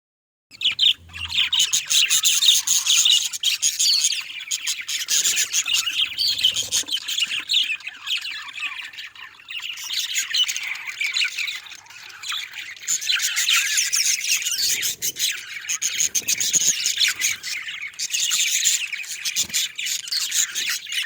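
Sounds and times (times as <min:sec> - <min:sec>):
budgerigars chattering and squawking: 0:00.5 - 0:21.0.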